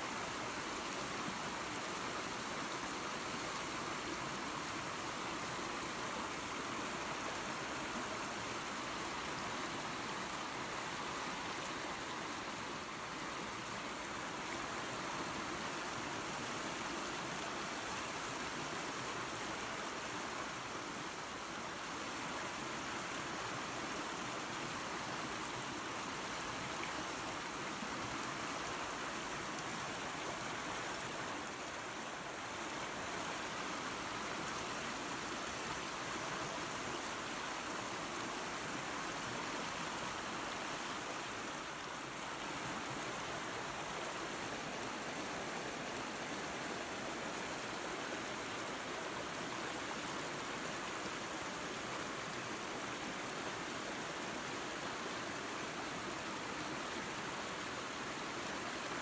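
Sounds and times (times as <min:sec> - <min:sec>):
waterfall and creek rushing: 0:00.0 - 0:59.0.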